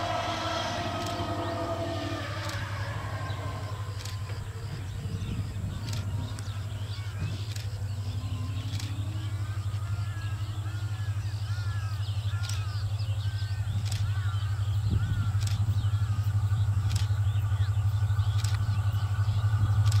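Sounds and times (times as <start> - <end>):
birds chirping: 0.0 - 20.0
diesel locomotive engine throbbing: 0.0 - 20.0.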